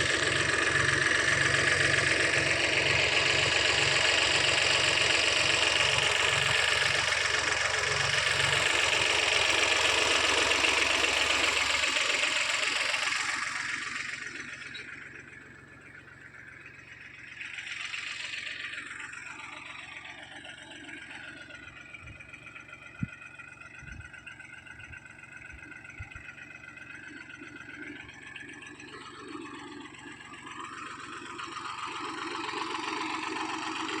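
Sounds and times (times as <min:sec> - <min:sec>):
mini tractor engine running: 0:00.0 - 0:34.0.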